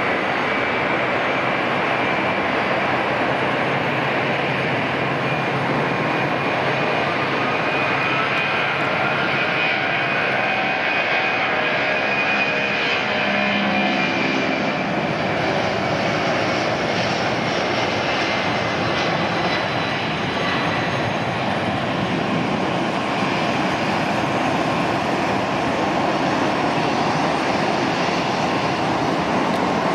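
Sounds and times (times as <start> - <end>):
jet engines at takeoff: 0.0 - 29.9.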